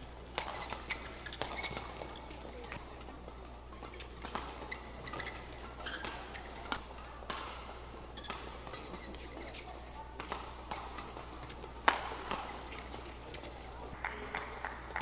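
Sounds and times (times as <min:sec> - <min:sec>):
rackets striking shuttlecock: 0:00.3 - 0:15.0
crowd murmur: 0:01.9 - 0:15.0.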